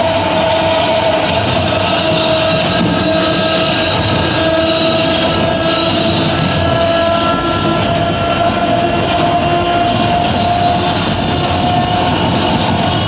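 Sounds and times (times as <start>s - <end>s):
electric railcar running on track: 0.0s - 13.0s
high steady whining tones: 0.0s - 13.0s.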